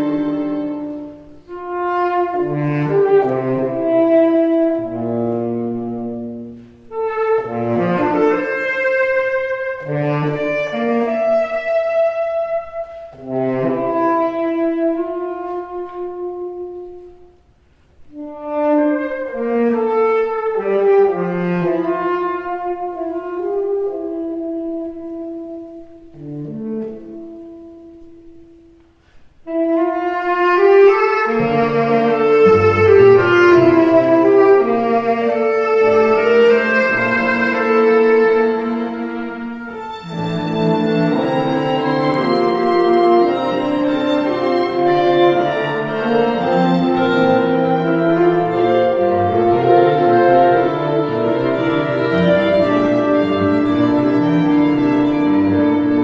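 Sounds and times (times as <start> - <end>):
woodwinds playing long notes: 0.0 - 17.4, 18.1 - 56.0
french horn: 0.0 - 56.0
saxophone: 0.0 - 56.0.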